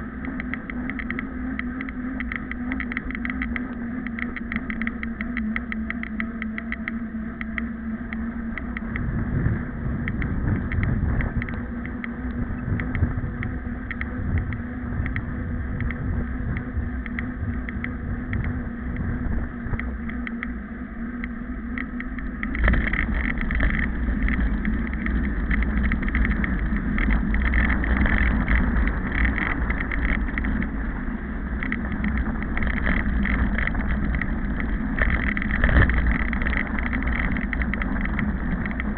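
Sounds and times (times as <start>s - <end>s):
faint regular clicking: 0.0s - 38.9s
wind on microphone: 0.0s - 38.9s.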